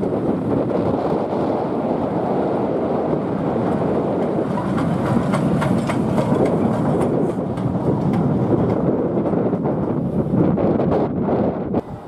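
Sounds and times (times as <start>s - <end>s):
train wheels rumbling and clicking: 0.0s - 11.2s
wind noise on microphone: 0.0s - 12.0s.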